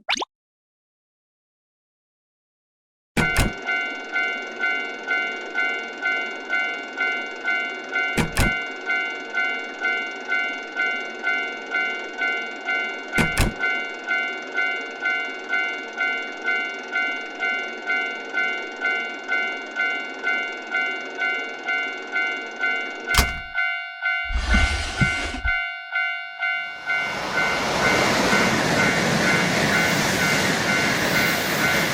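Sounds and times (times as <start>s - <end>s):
level-crossing alarm bell: 3.2s - 31.9s.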